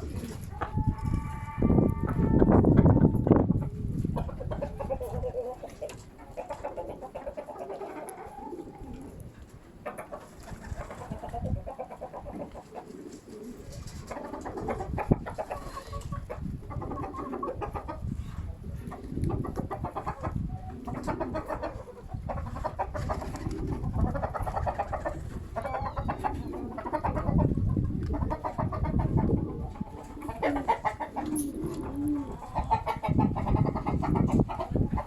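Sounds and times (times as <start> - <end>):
wind on microphone: 0.0 - 6.6, 10.4 - 12.5, 13.4 - 35.0
birds cooing and clucking: 0.0 - 35.0.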